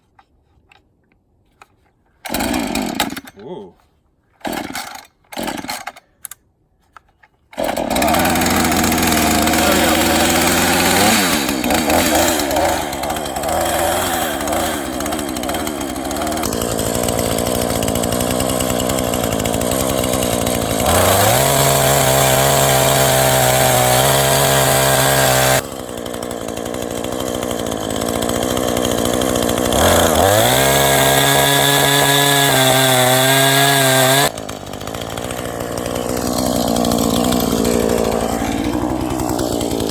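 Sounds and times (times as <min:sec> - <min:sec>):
chainsaw running and revving: 0:02.2 - 0:03.7, 0:04.4 - 0:06.0, 0:07.5 - 0:39.9.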